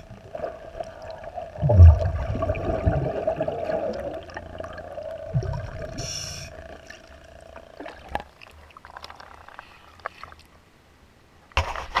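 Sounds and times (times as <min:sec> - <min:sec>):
underwater low rumble: 0:00.0 - 0:09.8
bubbles hissing: 0:00.0 - 0:10.0.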